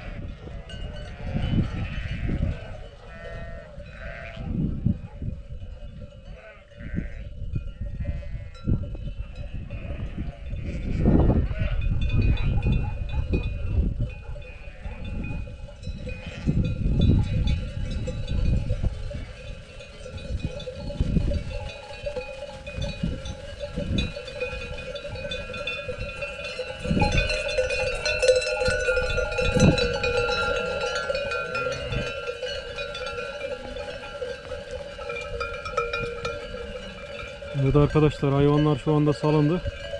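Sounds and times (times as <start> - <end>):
livestock bells ringing and clanking: 0.0 - 39.9.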